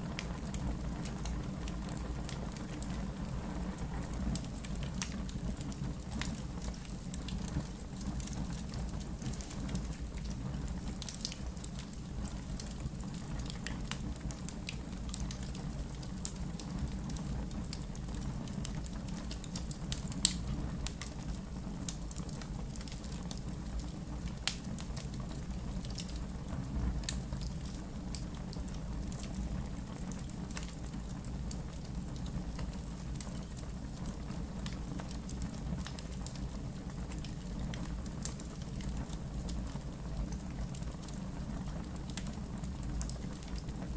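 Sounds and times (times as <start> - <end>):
fire popping: 0.0 - 43.9
wood fire crackling: 0.0 - 43.9.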